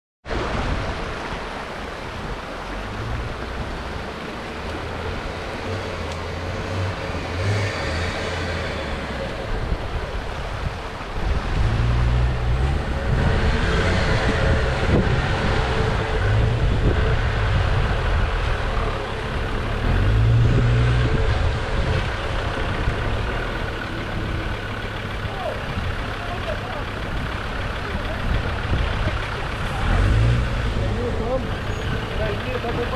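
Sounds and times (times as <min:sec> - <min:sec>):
off-road vehicle engine surging: 0:00.3 - 0:32.9
shallow stream rushing: 0:00.3 - 0:32.9.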